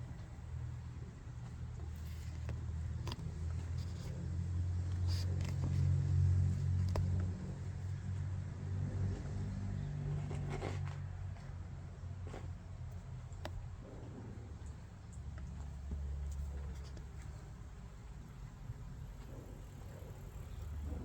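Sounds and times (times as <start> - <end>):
cats chewing and lapping food: 0.0 - 21.0.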